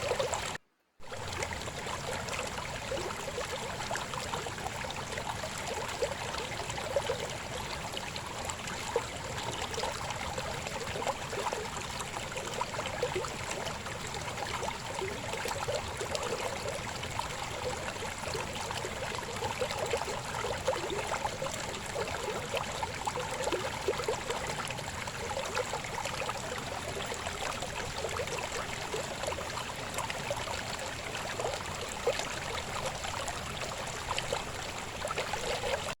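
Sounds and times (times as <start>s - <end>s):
river water babbling: 0.0s - 36.0s.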